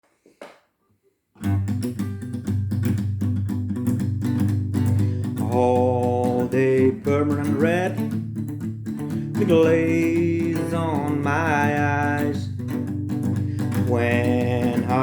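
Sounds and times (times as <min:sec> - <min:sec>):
acoustic guitar strumming chords: 0:01.4 - 0:15.0
sliding melodic guitar line: 0:01.4 - 0:15.0.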